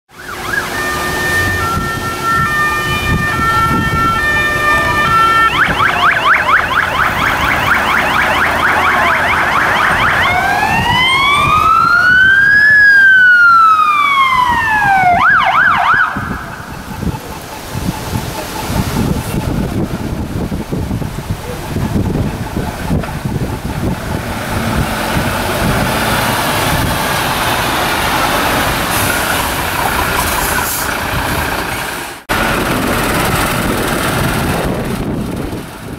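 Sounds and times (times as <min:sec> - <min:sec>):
fire engine siren: 0:00.1 - 0:31.6
road and engine noise: 0:00.1 - 0:35.9.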